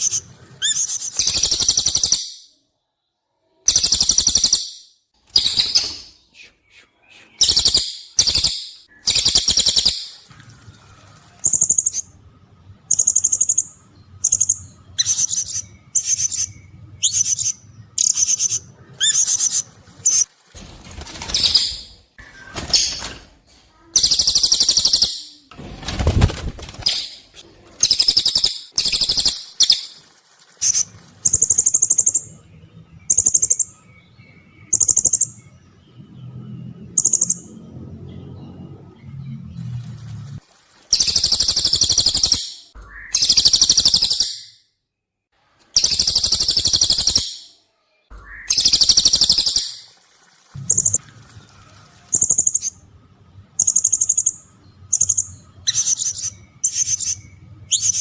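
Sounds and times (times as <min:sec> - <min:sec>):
high-pitched bird calls and trills: 0:00.0 - 0:02.6, 0:03.5 - 0:20.3, 0:23.8 - 0:25.5, 0:26.7 - 0:44.7, 0:45.7 - 0:50.0, 0:50.6 - 0:52.9, 0:53.5 - 0:58.0.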